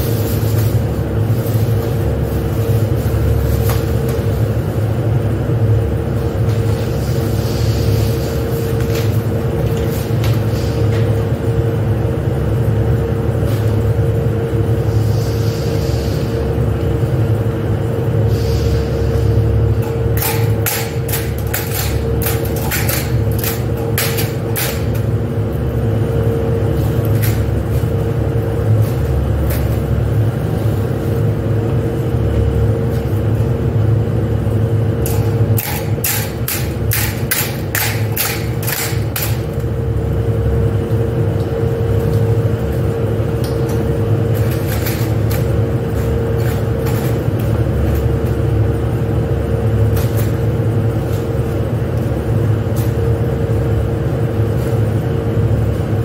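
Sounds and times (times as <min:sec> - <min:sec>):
factory machinery hum: 0:00.0 - 0:56.0.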